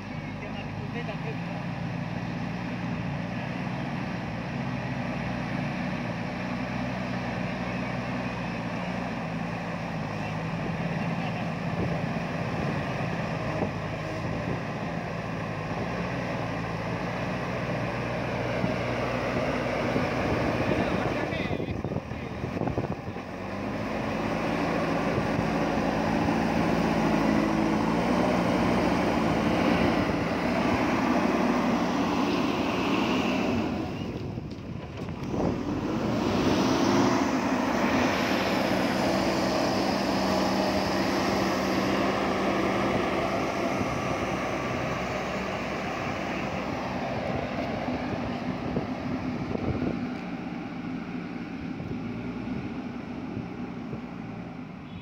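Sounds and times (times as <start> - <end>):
diesel engine working under load: 0.0 - 55.0.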